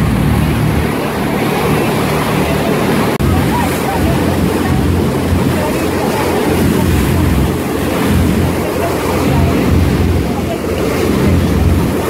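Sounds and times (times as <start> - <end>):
motorboat engine drone: 0.0 - 12.0
rushing boat wake: 0.0 - 12.0
wind on microphone: 0.0 - 12.0.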